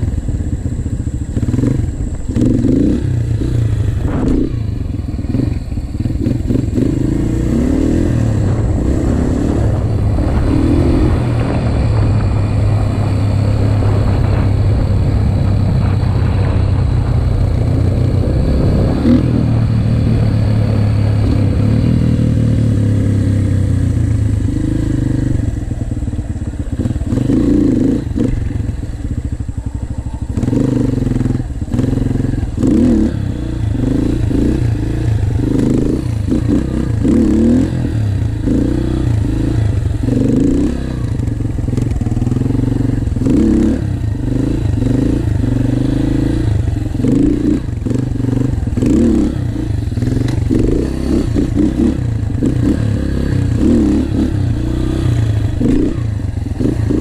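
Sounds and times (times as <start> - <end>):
dirt bike engine revving: 0.0 - 29.4, 30.0 - 57.0.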